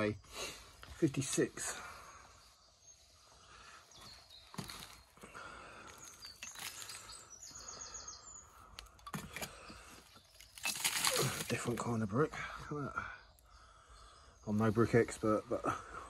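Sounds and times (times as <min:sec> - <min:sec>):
small bird chirping: 0:00.0 - 0:15.1.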